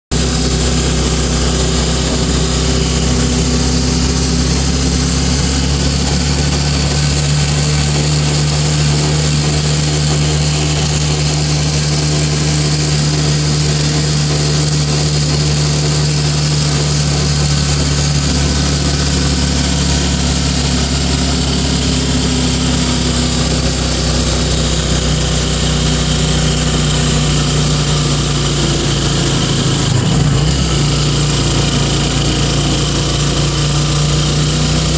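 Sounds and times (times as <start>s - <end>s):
small motorcycle engine droning: 0.1s - 34.9s.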